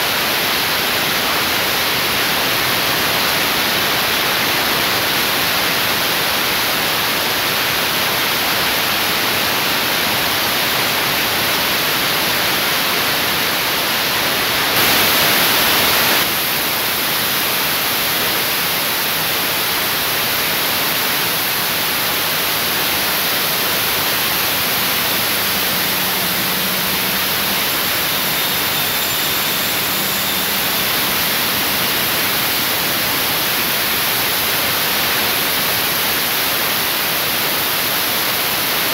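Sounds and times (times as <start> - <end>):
static-like hiss: 0.0 - 38.9.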